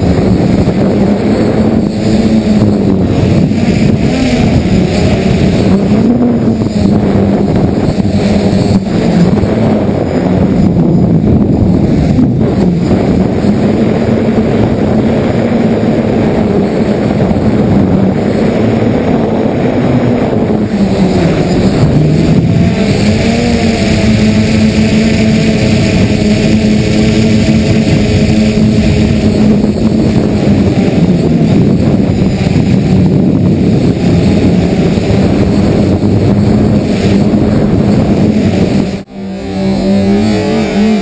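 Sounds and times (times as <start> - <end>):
drone motors humming: 0.0 - 41.0
wind noise: 0.0 - 41.0.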